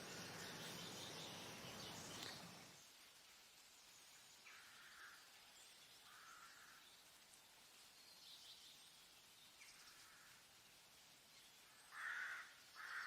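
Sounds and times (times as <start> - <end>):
soft forest hiss: 0.0 - 13.0.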